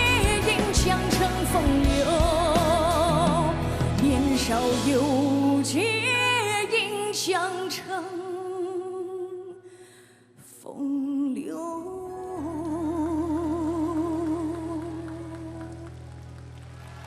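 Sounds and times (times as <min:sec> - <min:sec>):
solo singer with vibrato: 0:00.0 - 0:09.6, 0:10.4 - 0:15.8
soft musical accompaniment: 0:00.0 - 0:09.8, 0:10.4 - 0:17.0.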